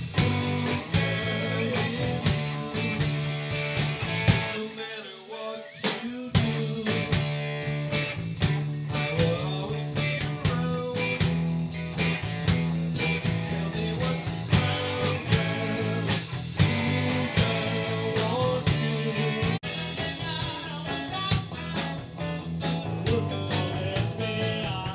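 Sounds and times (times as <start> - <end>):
live rock band playing: 0.0 - 5.0, 5.8 - 24.9.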